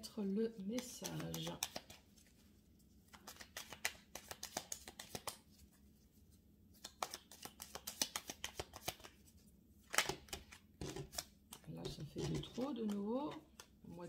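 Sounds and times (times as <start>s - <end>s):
cards being shuffled: 0.6s - 6.0s, 6.7s - 14.0s.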